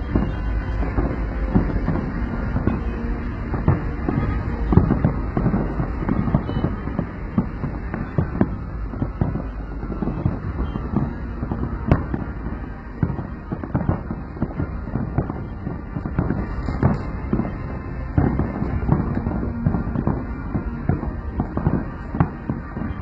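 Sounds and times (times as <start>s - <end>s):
fireworks bangs and crackles: 0.0s - 23.0s
sharp firework report: 0.0s - 23.0s.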